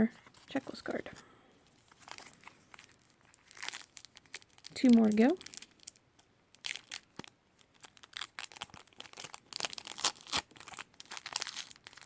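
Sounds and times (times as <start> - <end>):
foil wrapper crinkling and tearing: 1.9 - 12.0.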